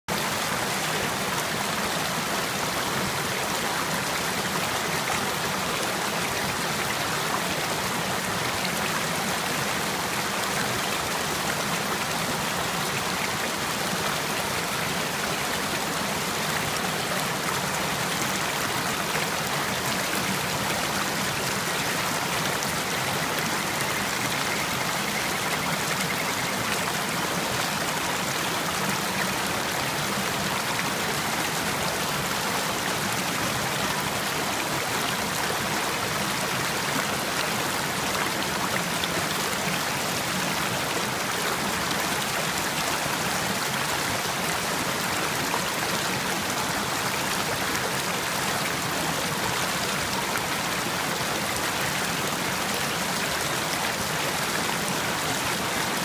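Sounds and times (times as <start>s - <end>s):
stream rushing over rocks: 0.1s - 56.0s.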